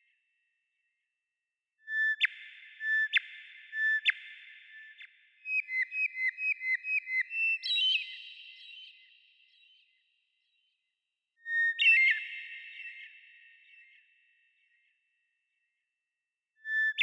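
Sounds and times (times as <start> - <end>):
whistled bird song: 1.8 - 15.8, 16.6 - 17.0.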